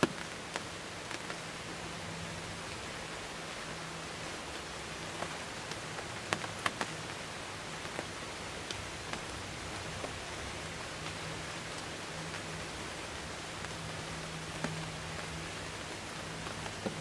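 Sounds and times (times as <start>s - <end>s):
raindrops ticking: 0.0s - 1.8s, 2.7s - 17.0s
light rain hiss: 0.0s - 17.0s.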